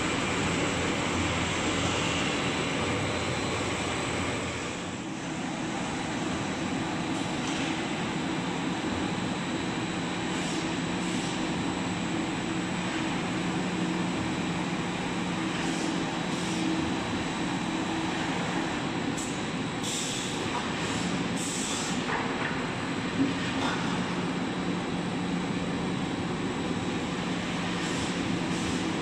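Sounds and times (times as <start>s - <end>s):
conveyor machine noise: 0.0s - 29.0s.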